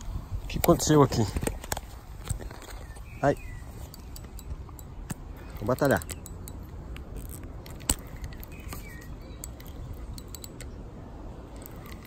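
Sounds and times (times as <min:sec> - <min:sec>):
phone microphone handling noise: 0:00.0 - 0:10.8
low wind rumble: 0:00.0 - 0:12.0.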